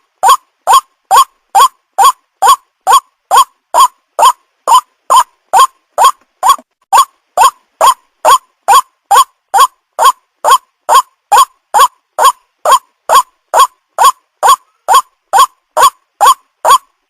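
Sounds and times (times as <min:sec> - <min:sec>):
bird call repeated: 0:00.2 - 0:16.9.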